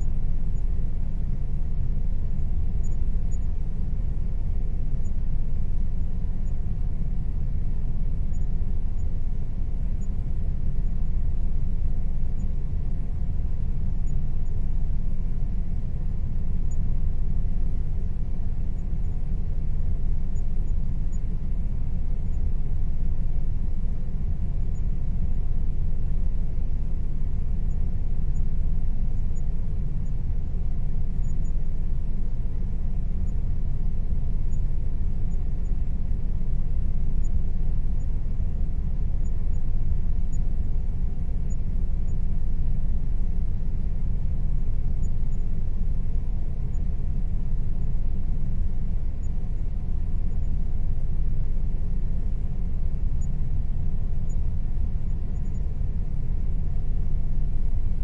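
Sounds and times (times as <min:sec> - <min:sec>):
air conditioner rumbling: 0:00.0 - 0:58.0
faint constant hum: 0:00.0 - 0:58.0.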